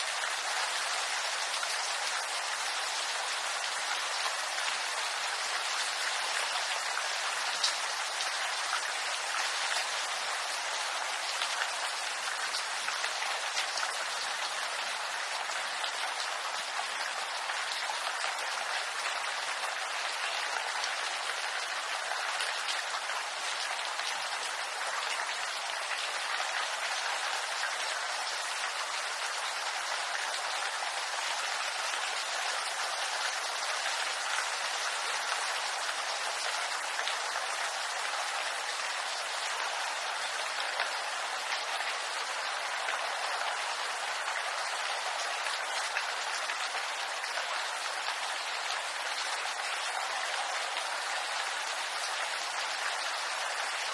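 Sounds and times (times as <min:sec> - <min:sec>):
rain pattering on leaves: 0:00.0 - 0:53.9.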